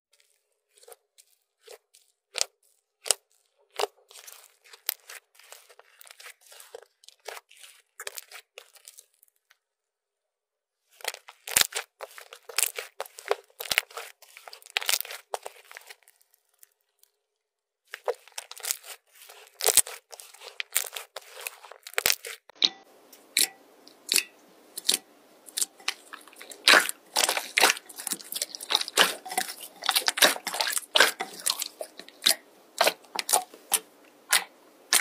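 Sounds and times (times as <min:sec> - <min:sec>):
slime squished by hand: 0:00.2 - 0:09.5, 0:11.0 - 0:16.7, 0:17.9 - 0:22.5, 0:23.4 - 0:35.0.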